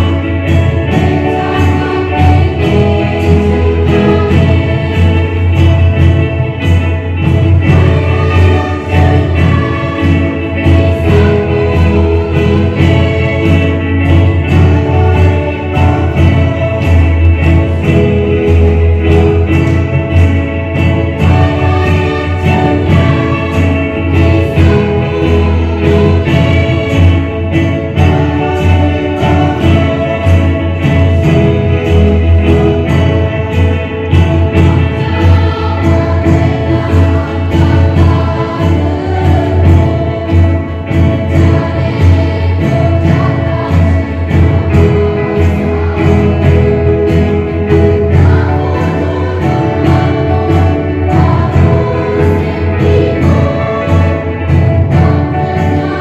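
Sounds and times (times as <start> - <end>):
guitar accompaniment: 0.0 - 56.0
youth choir singing: 0.0 - 56.0.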